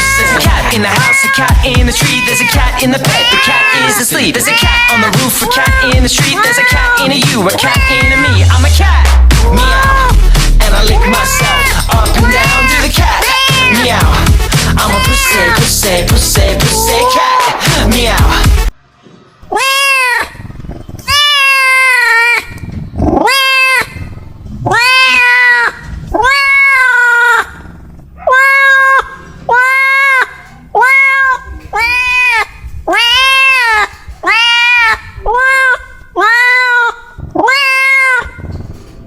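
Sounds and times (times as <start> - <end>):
cat meowing loudly: 0.0 - 8.6, 9.4 - 10.2, 10.8 - 14.1, 14.8 - 15.8, 19.5 - 20.5, 21.1 - 27.6, 28.2 - 38.4.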